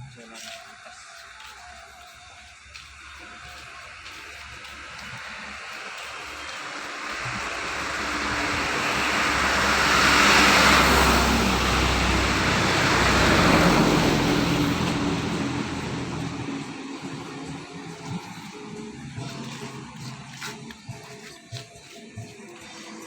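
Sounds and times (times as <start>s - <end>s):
vehicle engine and road noise: 0.0s - 21.6s.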